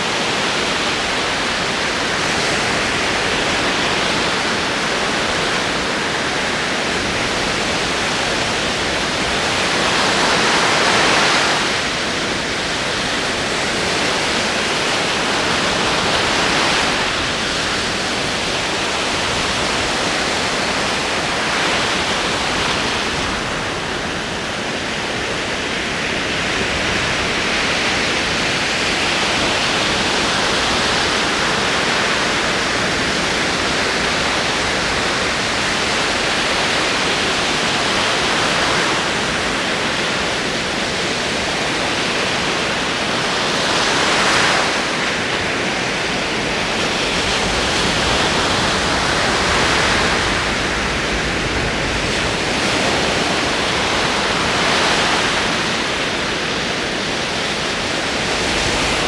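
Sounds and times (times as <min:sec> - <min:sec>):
ocean waves rolling in: 0:00.0 - 0:59.0.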